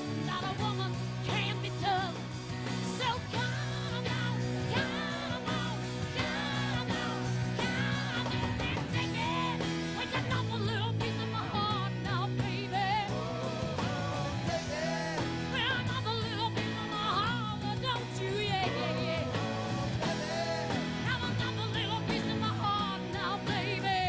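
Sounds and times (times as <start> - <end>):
full band playing: 0.0 - 24.0
woman singing with vibrato: 0.1 - 2.2, 2.8 - 24.0.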